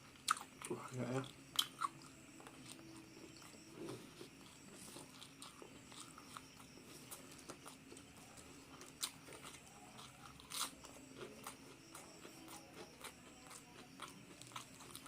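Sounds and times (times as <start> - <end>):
chewing and crunching: 0.0 - 15.0
faint steady hum: 0.0 - 15.0.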